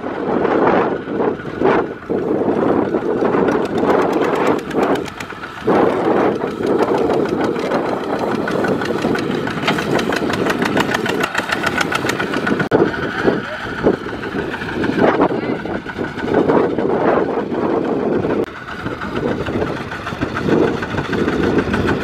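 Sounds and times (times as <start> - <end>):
diesel tractor engine chugging: 0.0 - 22.0.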